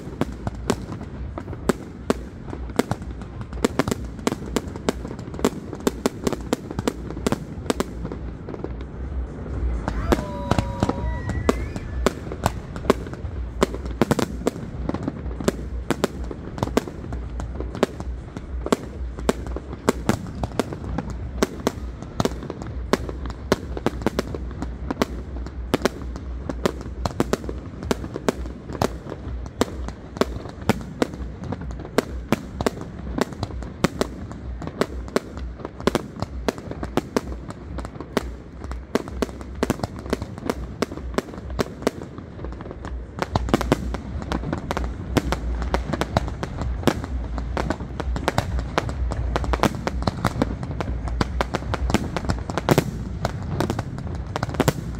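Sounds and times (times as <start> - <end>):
continuous low rumble: 0.0 - 54.9.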